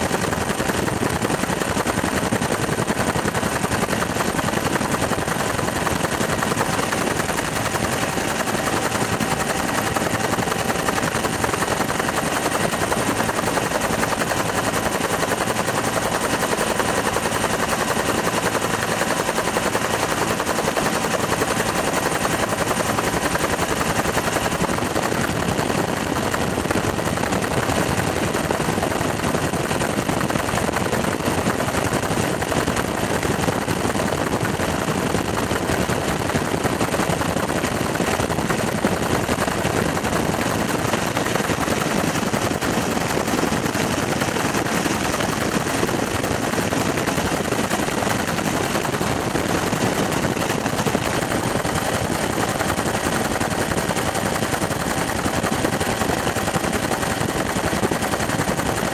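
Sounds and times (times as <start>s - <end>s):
helicopter rotor and engine drone: 0.0s - 58.9s.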